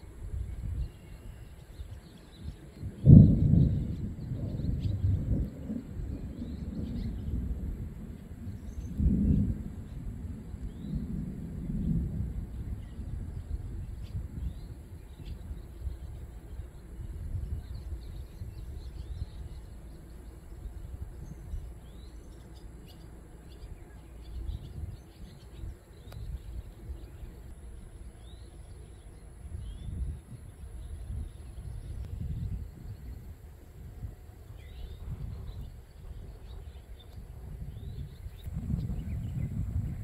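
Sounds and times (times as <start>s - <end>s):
birds chirping: 0.0s - 40.0s
thunder rumble: 0.0s - 40.0s.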